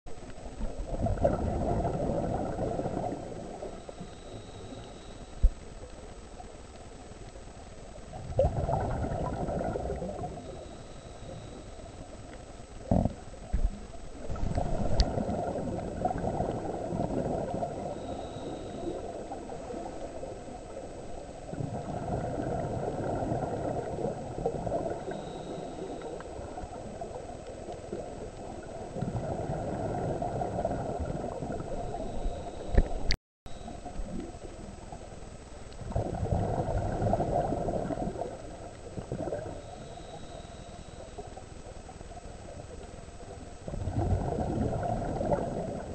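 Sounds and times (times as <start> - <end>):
underwater bubbles gurgling: 0.1 - 45.9.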